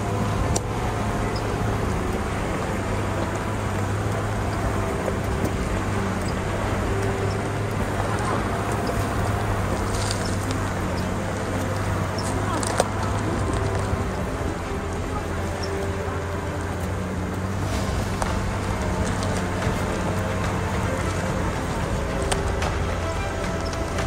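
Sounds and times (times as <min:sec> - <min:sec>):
car engine running steadily: 0:00.0 - 0:24.0.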